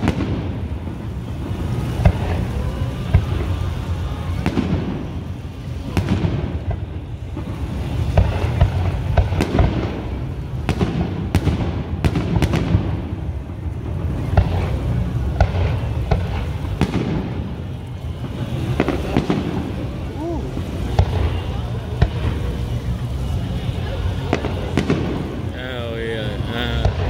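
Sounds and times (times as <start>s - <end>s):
low rumble of distant booms: 0.0s - 25.6s, 26.3s - 27.0s
firework shells bursting: 0.0s - 27.0s.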